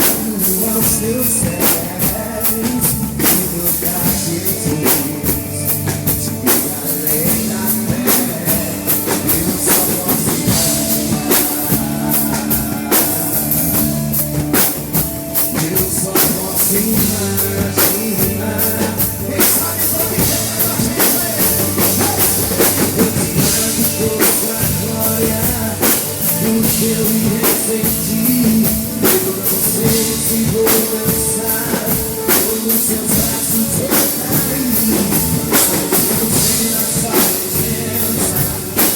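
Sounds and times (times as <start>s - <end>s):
drum and cymbal hits: 0.0s - 38.9s
live band playing: 0.0s - 38.9s.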